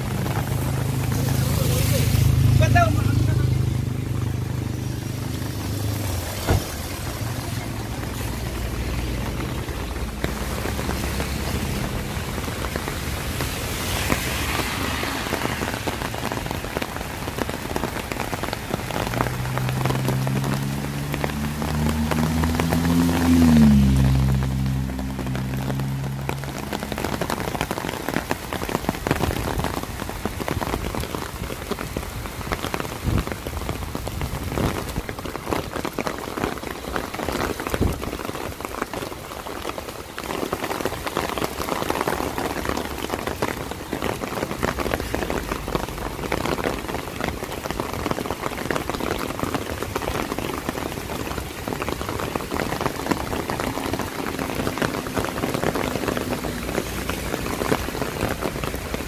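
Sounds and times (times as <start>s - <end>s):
rain on a wet street: 0.0s - 59.0s
raindrops pattering on an umbrella: 0.0s - 59.0s.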